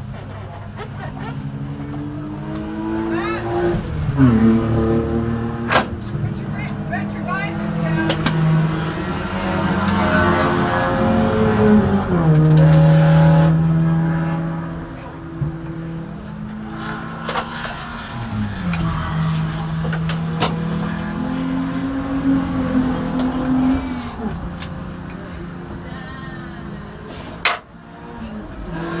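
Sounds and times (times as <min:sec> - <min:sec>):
race car engines running: 0:00.0 - 0:29.0.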